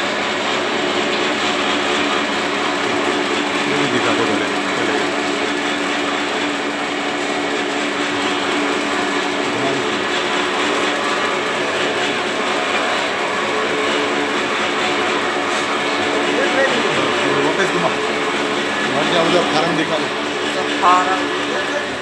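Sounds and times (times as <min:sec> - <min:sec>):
mixing machine churning paste: 0:00.0 - 0:22.0.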